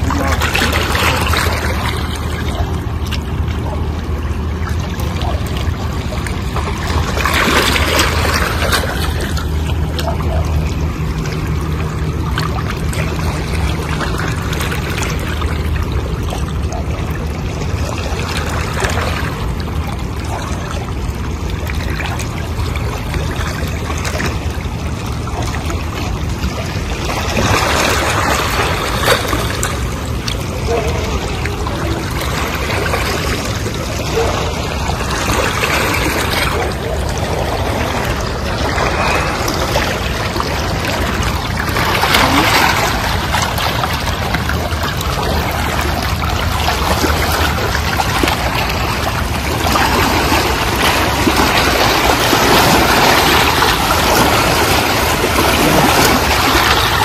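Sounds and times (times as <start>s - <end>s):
small waves lapping on rocks: 0.0s - 57.0s
steady low rumble: 0.0s - 57.0s.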